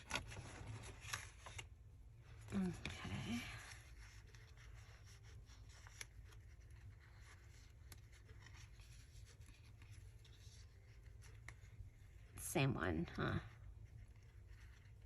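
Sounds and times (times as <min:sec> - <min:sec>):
paper rustling: 0:00.0 - 0:12.3
low steady hum: 0:00.0 - 0:15.0.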